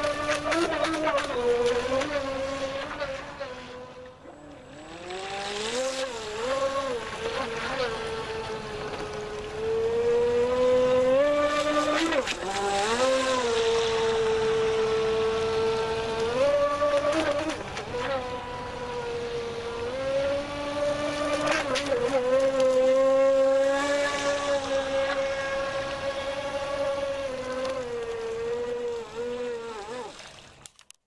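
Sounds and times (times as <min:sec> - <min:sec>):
electric motor whining: 0:00.0 - 0:30.4.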